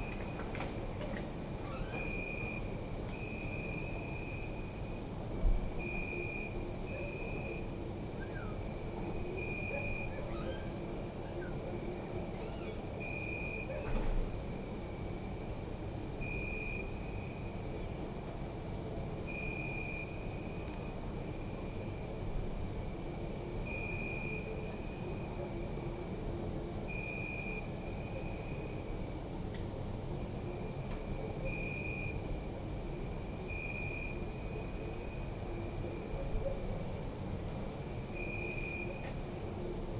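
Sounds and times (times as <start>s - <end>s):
crickets chirping: 0.0s - 39.9s
low insect trill: 0.0s - 39.9s.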